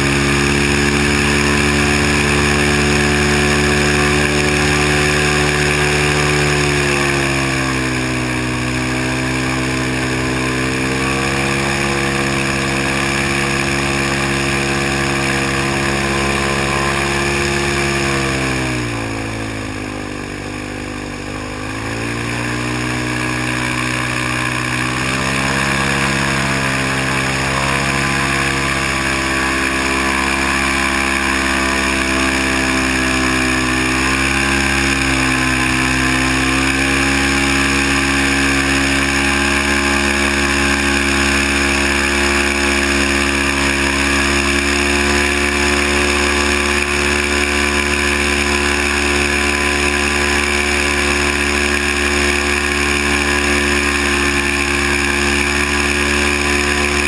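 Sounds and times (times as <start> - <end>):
airboat engine and propeller drone: 0.0 - 57.0.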